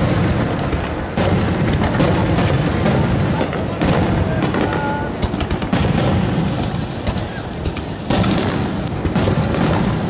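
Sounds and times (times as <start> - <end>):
fireworks booming and crackling: 0.0 - 10.0.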